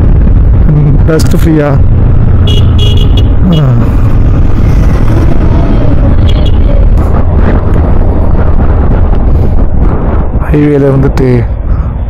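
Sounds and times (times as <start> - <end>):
motorcycle engine drone: 0.0 - 12.0
wind noise on microphone: 0.0 - 12.0.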